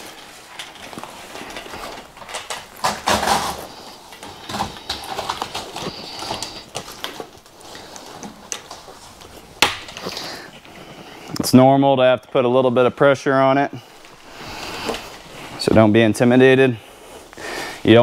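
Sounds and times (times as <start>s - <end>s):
screen material rustling: 0.0s - 18.0s.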